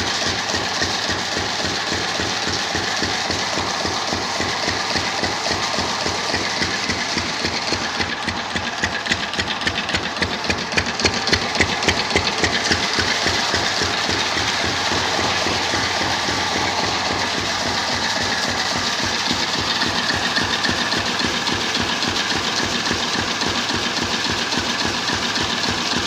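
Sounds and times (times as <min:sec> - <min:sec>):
engine idling: 0:00.0 - 0:26.0
rapid clicking rattle: 0:00.0 - 0:26.0.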